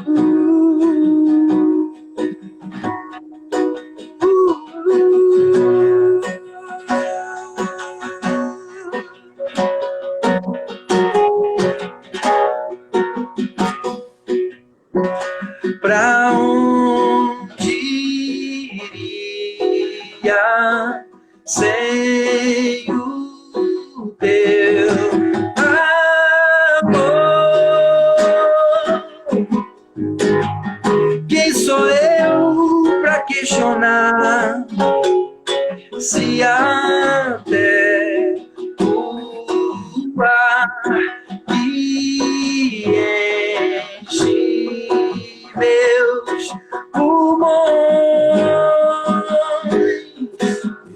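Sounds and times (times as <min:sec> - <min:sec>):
man singing: 0:00.0 - 0:10.1, 0:15.0 - 0:29.9, 0:30.9 - 0:50.9
acoustic guitar strumming: 0:00.0 - 0:50.9
plucked string instrument: 0:00.0 - 0:50.9.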